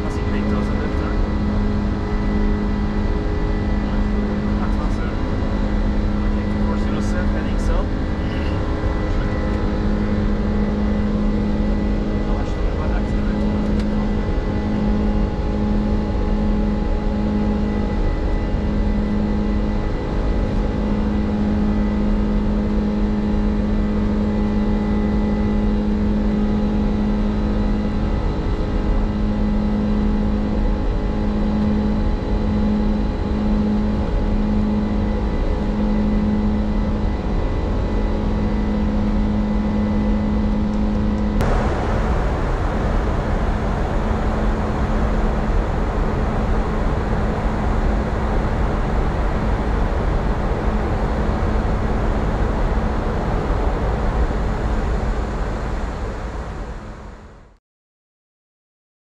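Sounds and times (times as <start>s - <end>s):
aircraft engine rumble and rush: 0.0s - 57.6s
steady cockpit hum: 0.0s - 57.6s.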